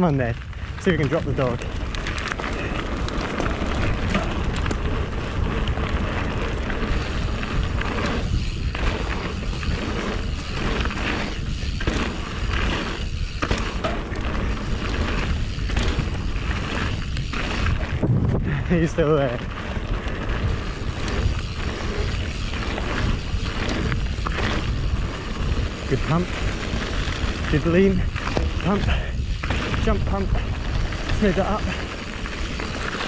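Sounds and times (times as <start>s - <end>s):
bike tyres on loose gravel: 0.0s - 33.0s
wind on microphone: 0.5s - 32.8s.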